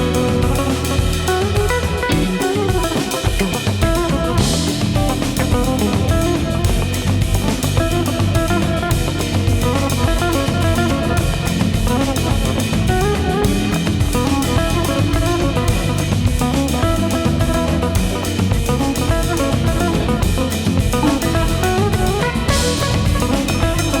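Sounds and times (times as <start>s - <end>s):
band music with drums guitar bass: 0.0s - 24.0s.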